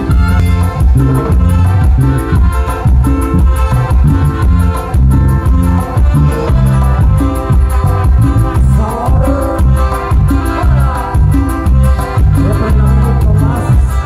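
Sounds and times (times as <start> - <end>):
live band playing latin dance music: 0.0 - 14.0.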